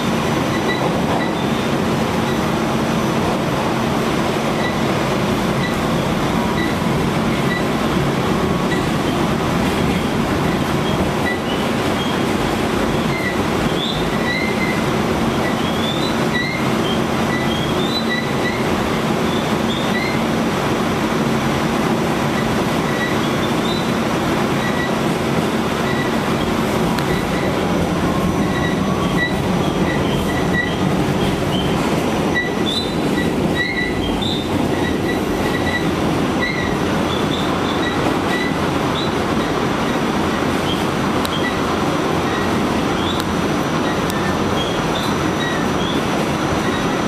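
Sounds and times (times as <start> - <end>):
high wheel squeals: 0.0 - 2.6, 4.5 - 9.3, 9.9 - 20.4, 22.3 - 47.0
rumble of wheels on rail: 0.0 - 47.0.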